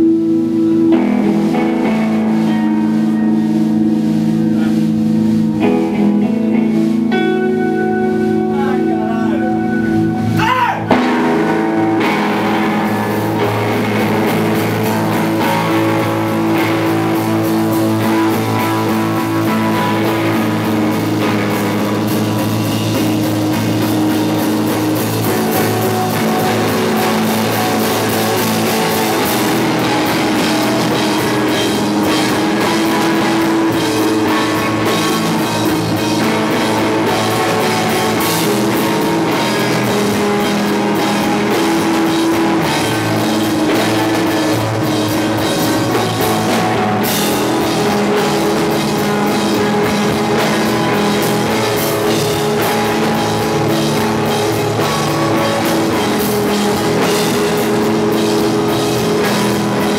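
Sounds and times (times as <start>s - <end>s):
drums: 0.0s - 59.9s
electric guitars: 0.0s - 59.9s.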